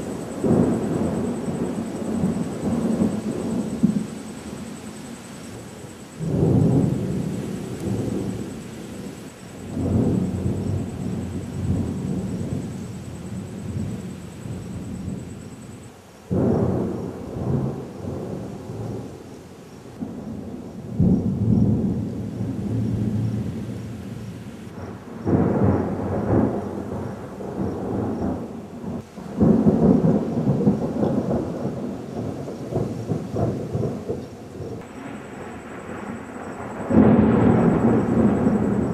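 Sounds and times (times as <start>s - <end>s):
rolling thunder: 0.0s - 19.2s, 19.9s - 38.9s.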